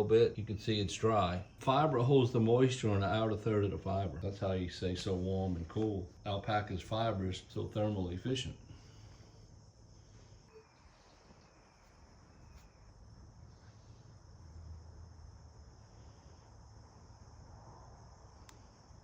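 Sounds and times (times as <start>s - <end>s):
insect chorus chirring: 0.0s - 19.0s.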